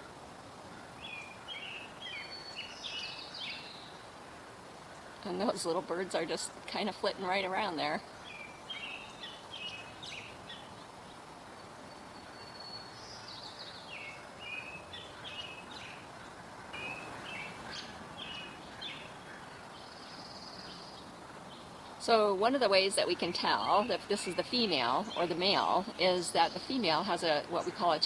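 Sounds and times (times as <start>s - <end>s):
birds chirping: 0.0s - 28.0s
outdoor background hiss: 0.0s - 28.0s.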